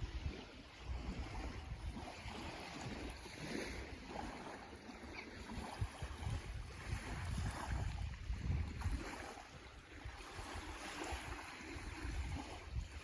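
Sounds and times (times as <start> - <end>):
sea waves washing in: 0.0 - 13.0
wind gusting across microphone: 0.0 - 13.0.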